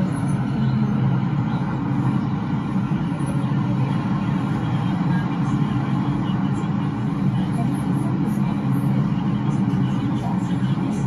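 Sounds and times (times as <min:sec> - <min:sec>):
metro train wheels rumbling on rail: 0:00.0 - 0:11.0.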